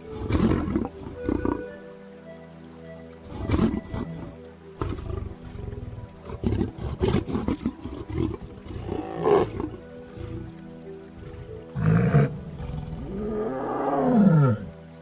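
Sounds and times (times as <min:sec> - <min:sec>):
soft background music: 0:00.0 - 0:15.0
lion growling and roaring: 0:00.1 - 0:01.6, 0:03.3 - 0:10.5, 0:11.1 - 0:14.8.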